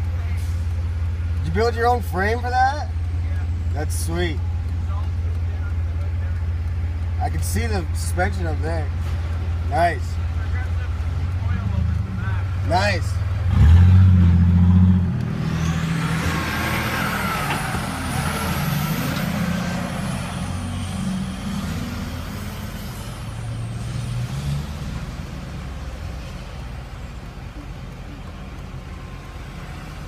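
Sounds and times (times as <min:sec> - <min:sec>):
diesel engine idling: 0:00.0 - 0:23.7, 0:25.1 - 0:30.0.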